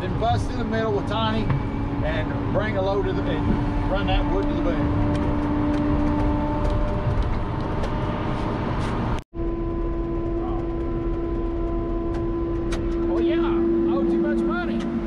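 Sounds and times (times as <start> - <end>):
constant whine: 0.0 - 15.0.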